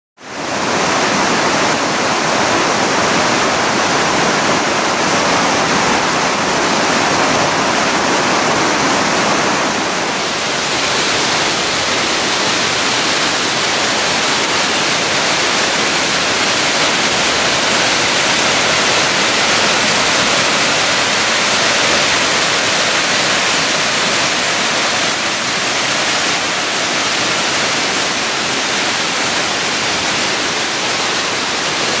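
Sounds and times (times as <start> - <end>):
waterfall rushing over rocks: 0.2 - 32.0.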